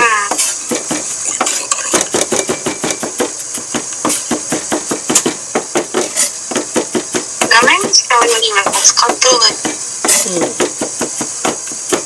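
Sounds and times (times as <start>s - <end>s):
knife chopping on wooden board: 0.3s - 12.0s.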